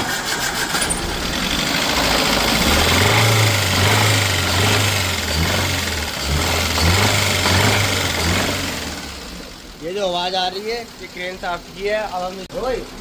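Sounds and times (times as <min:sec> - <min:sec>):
car engine starting and running: 0:00.0 - 0:13.0.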